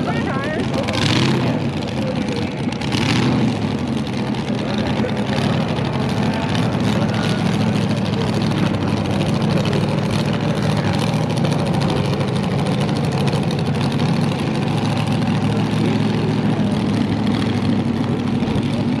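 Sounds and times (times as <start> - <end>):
dragster engine idling: 0.0 - 19.0.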